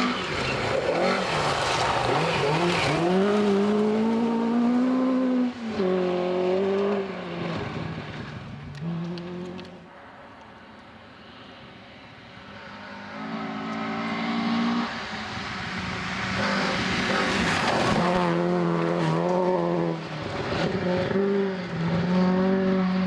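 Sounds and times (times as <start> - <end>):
rally car engine passing: 0.0 - 23.0
tyre and road noise: 0.0 - 23.0.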